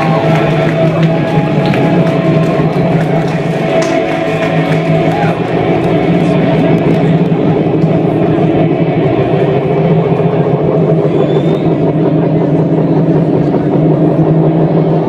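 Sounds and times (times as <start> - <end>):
sustained droning tones: 0.0 - 15.0.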